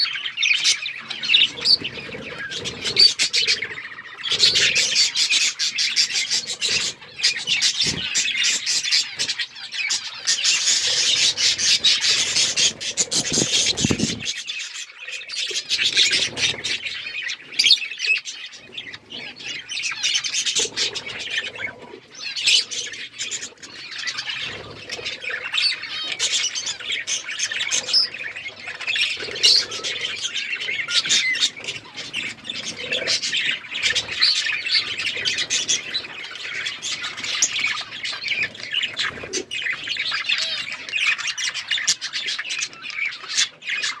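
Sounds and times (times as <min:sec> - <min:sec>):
budgerigars chattering and chirping: 0:00.0 - 0:44.0.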